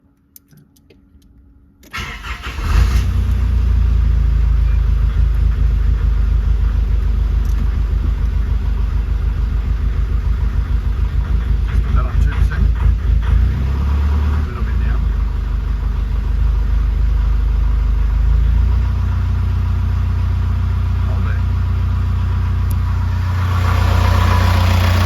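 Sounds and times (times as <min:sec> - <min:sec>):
car engine starting and idling: 0:01.8 - 0:25.0.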